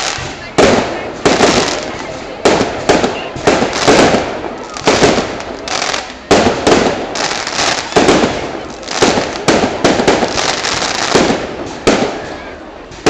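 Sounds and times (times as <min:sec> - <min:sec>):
fireworks bursting: 0:00.0 - 0:13.0
fireworks crackling: 0:00.0 - 0:13.0.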